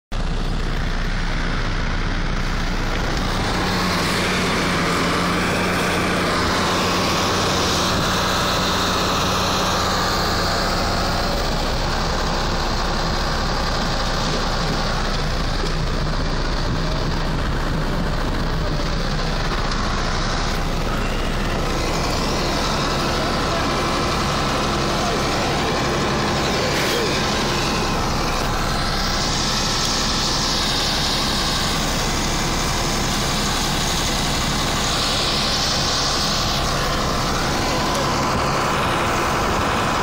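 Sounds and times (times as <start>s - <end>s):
car engine idling: 0.1s - 40.0s
loud rushing noise: 2.2s - 40.0s.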